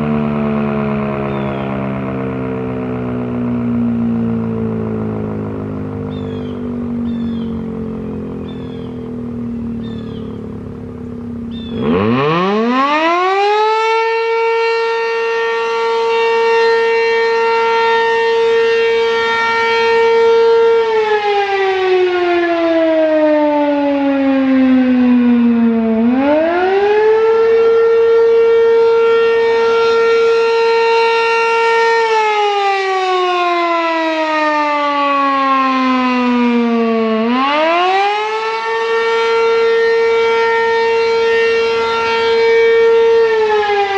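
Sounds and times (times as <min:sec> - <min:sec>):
mechanical siren wailing: 0:00.0 - 0:43.9.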